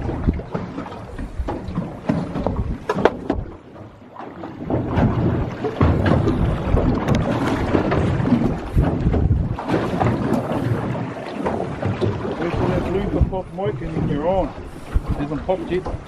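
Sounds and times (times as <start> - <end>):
wind buffeting microphone: 0.0 - 3.6, 4.6 - 16.0
water splashing against hull: 0.0 - 16.0.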